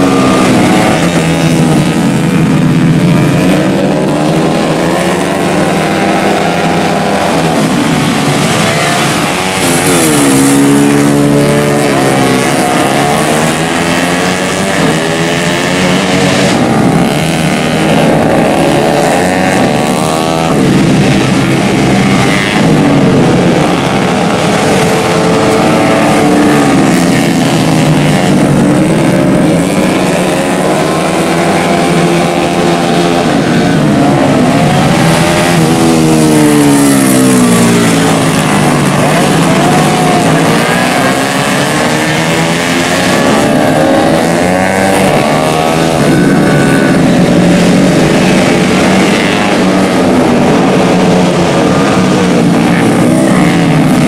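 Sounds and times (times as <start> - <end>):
racing engines revving hard: 0.0 - 54.0.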